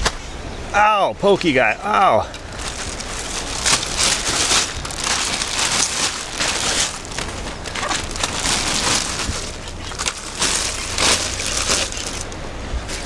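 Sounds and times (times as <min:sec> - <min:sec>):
plastic bag crinkling: 0:02.4 - 0:13.0.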